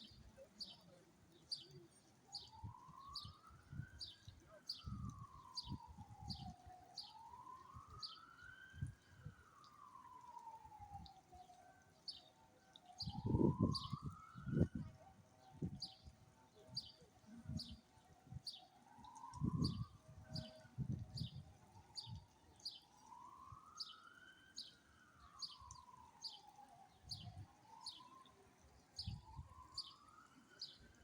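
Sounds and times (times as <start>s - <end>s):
siren wailing: 2.4s - 12.0s, 12.8s - 15.8s, 17.3s - 31.0s.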